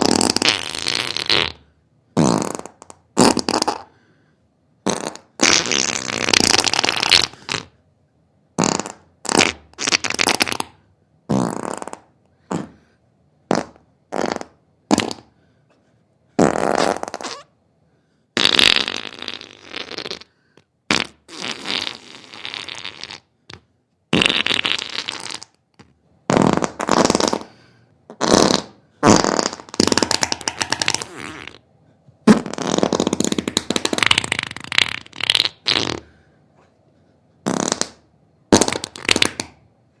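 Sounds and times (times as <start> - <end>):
farts: 0.0 - 3.9, 4.8 - 7.8, 8.6 - 12.9, 13.5 - 15.4, 16.4 - 17.5, 18.4 - 31.6, 32.2 - 36.2, 37.4 - 39.6.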